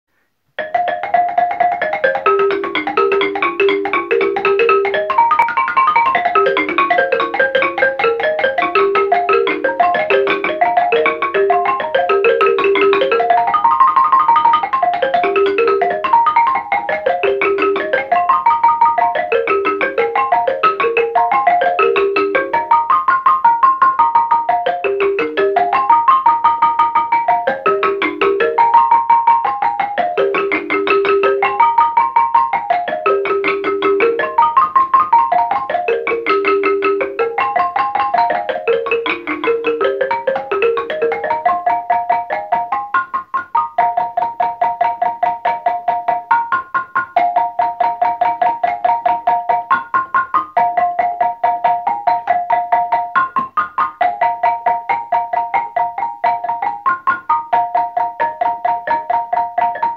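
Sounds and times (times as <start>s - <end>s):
balafon melody: 0.6s - 59.9s.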